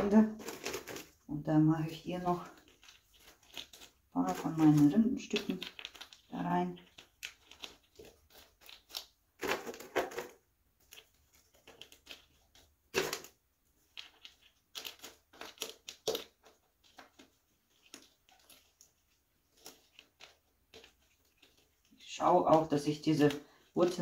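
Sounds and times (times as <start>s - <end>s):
bark chunks crunching and rattling: 0.0s - 1.3s, 2.2s - 24.0s.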